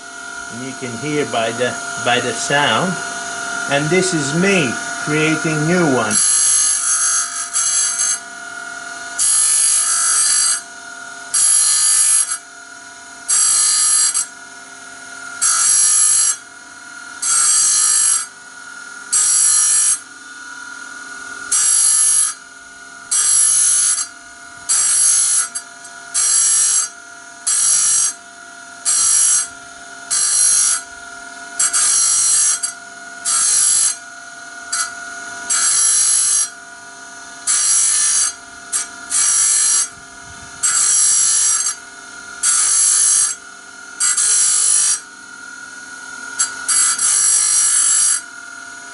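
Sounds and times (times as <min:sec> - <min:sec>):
grinding stone on saw blade: 0:00.0 - 0:48.9
power grinder whine: 0:00.0 - 0:48.9.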